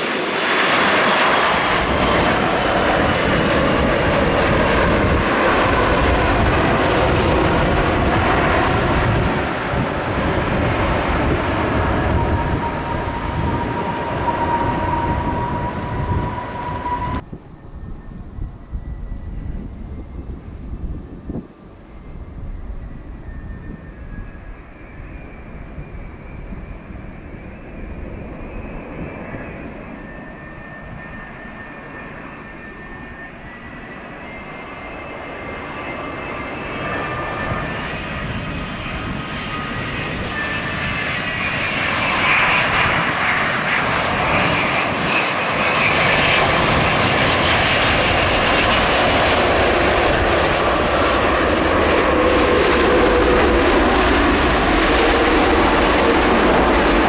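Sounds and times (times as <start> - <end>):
jet airliner engines whining: 0.0 - 57.0.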